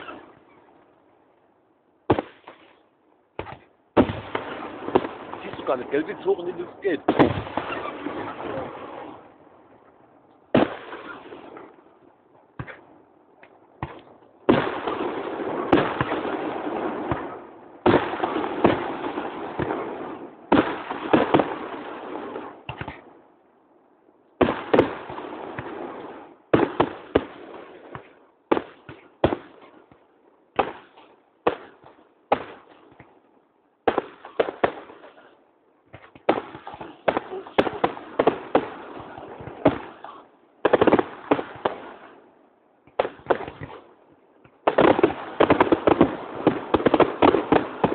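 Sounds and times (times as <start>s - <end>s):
fireworks crackling: 0.0s - 0.6s, 2.0s - 11.9s, 12.6s - 23.1s, 24.4s - 30.0s, 33.8s - 42.2s, 42.9s - 47.9s
fireworks bursting with sharp bangs: 0.0s - 1.0s, 2.0s - 23.2s, 24.4s - 47.9s.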